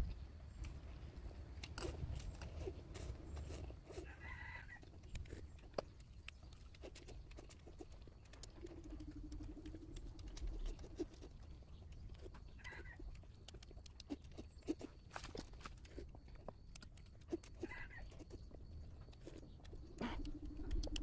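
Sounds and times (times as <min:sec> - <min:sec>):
noodles being slurped and chewed: 0:01.6 - 0:04.2, 0:04.8 - 0:21.0.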